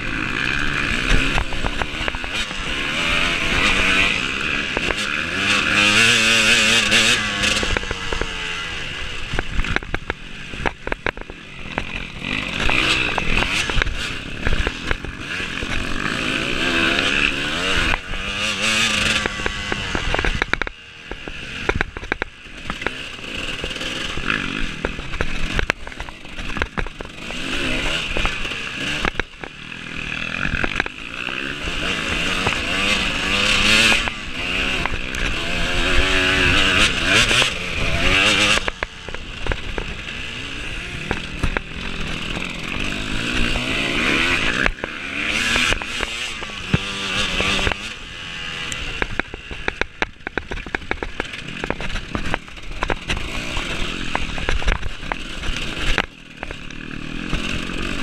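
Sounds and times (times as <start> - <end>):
sharp knocks and clatter: 0.0 - 48.0, 48.7 - 58.0
motorcycle engine revving: 0.0 - 58.0.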